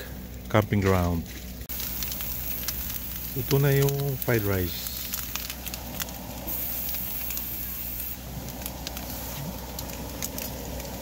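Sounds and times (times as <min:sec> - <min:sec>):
fried rice sizzling: 0:00.0 - 0:11.0
small crackles: 0:00.0 - 0:11.0.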